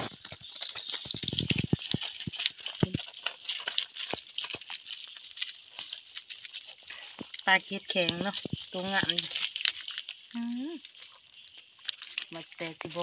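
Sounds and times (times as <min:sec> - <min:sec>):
fish flapping in mesh trap: 0:00.0 - 0:13.0.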